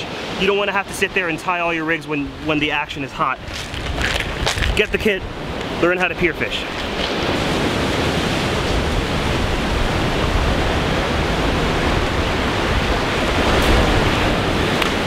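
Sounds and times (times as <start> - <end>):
rushing surf: 0.0 - 15.0
wind blowing across microphone: 0.0 - 15.0.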